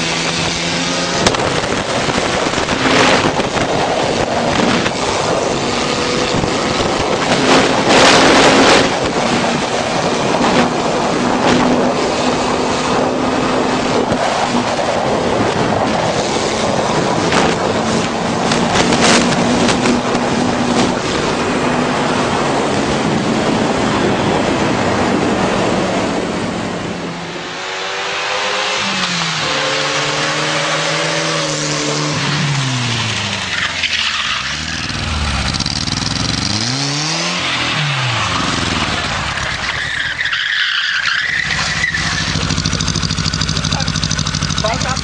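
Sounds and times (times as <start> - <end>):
motorcycle engine revving: 0.0 - 39.8, 41.4 - 45.0
road noise: 0.0 - 45.0
rushing wind: 0.0 - 45.0.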